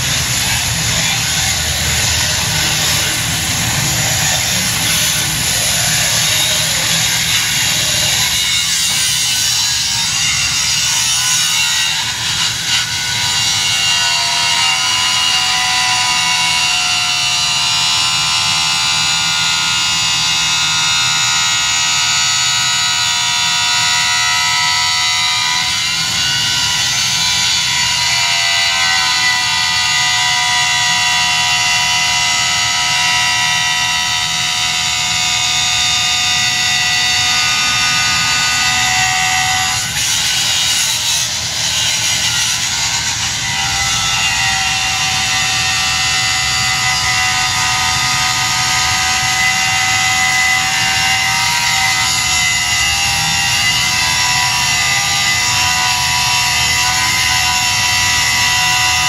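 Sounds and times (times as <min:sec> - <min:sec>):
angle grinder grinding steel: 0:00.0 - 0:59.0.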